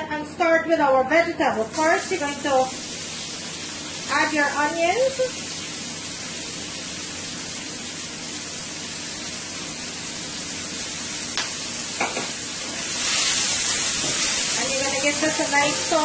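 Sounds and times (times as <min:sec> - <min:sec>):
onions sizzling in a skillet: 0:01.7 - 0:16.0.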